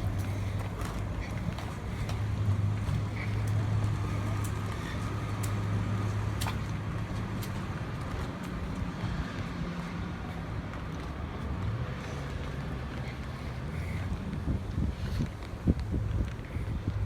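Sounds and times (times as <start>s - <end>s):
light footsteps: 0.0s - 17.0s
vehicle engine running: 0.0s - 17.0s.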